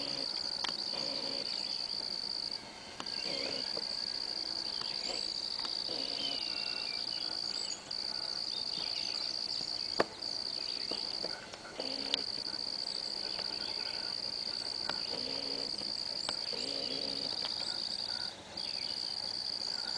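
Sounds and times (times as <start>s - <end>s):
crickets trilling: 0.0s - 19.9s.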